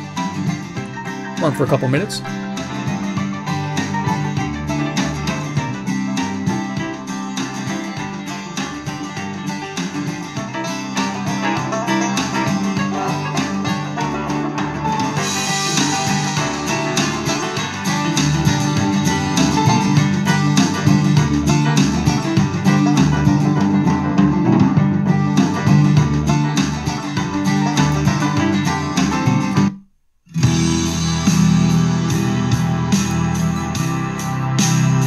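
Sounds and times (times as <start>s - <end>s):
guitar music from radio speaker: 0.0s - 35.0s.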